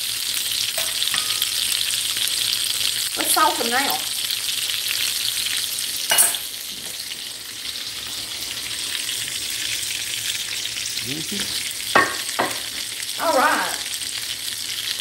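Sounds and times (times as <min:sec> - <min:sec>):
hot oil sizzling in skillet: 0:00.0 - 0:15.0.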